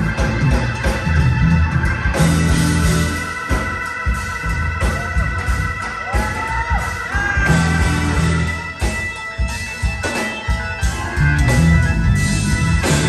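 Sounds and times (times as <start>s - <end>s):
bass: 0.0s - 13.0s
drums: 0.0s - 13.0s
keyboard chords: 0.0s - 13.0s.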